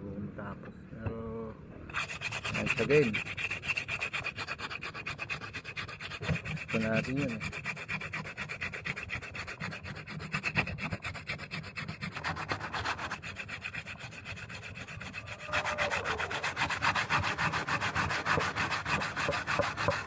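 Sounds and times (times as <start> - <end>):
hand sanding with sandpaper: 1.9 - 20.0.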